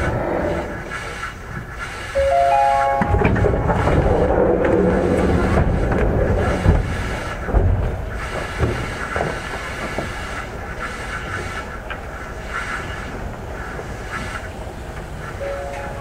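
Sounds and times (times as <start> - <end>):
electric train rumble: 0.0 - 16.0.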